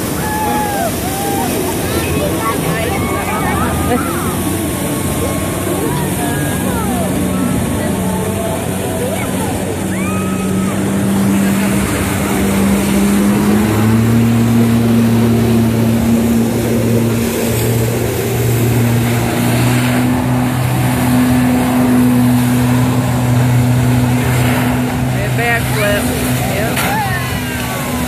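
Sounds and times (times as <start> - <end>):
water jets spraying: 0.0 - 28.0
watercraft engine at high revs: 0.0 - 28.0.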